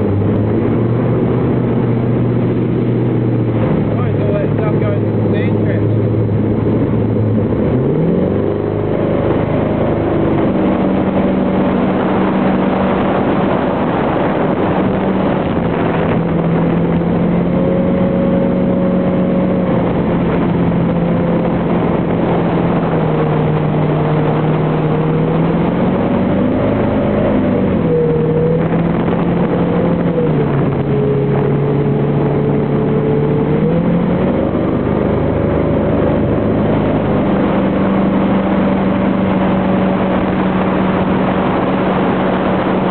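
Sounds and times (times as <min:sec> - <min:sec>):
boat engine running: 0:00.0 - 0:42.9
rushing water: 0:00.0 - 0:42.9.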